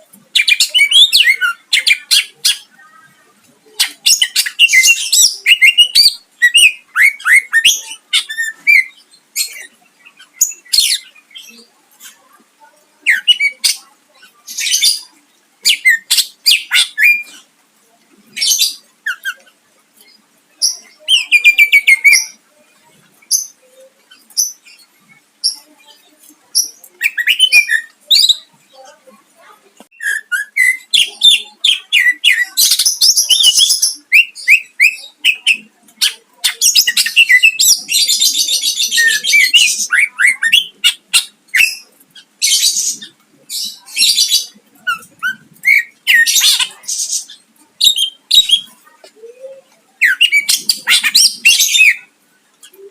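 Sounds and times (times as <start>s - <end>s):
bird singing with chirps and trills: 0.0s - 12.3s, 12.9s - 17.5s, 18.3s - 29.0s, 29.9s - 52.9s.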